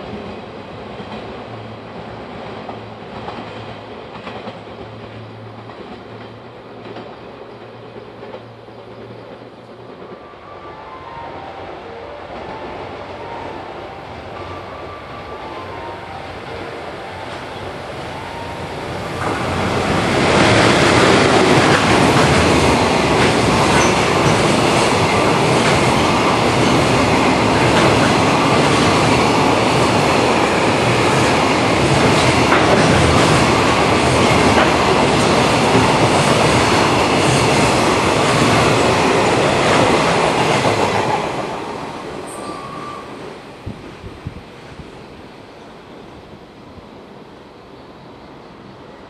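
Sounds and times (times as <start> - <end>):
freight train passing: 0.0 - 49.0.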